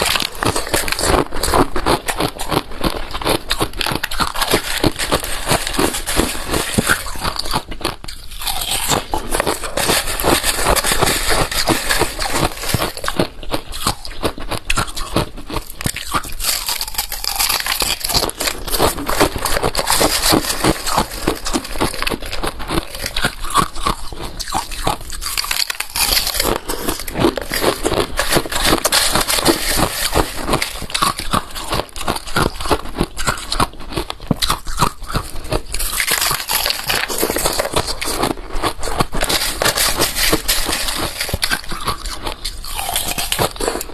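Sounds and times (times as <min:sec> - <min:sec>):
ice crunching while chewed: 0:00.0 - 0:43.9.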